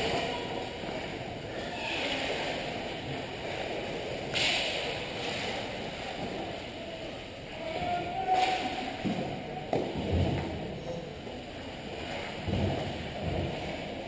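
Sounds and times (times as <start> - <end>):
skating and rink noise: 0.0 - 14.0.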